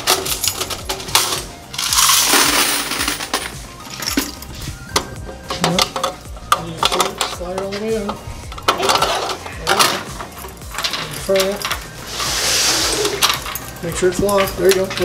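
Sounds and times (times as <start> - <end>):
metal coin box clicking and clanking: 0.0 - 4.6, 5.4 - 12.0, 12.9 - 15.0
coins rattling: 0.0 - 4.9, 5.5 - 15.0.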